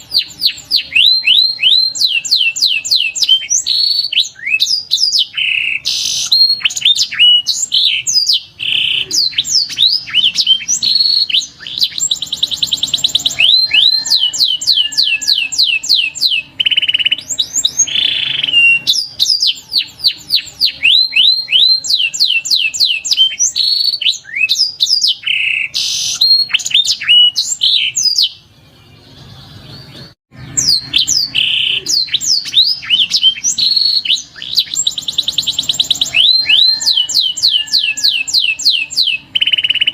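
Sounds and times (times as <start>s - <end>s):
canary song trills and whistles: 0.0s - 39.9s.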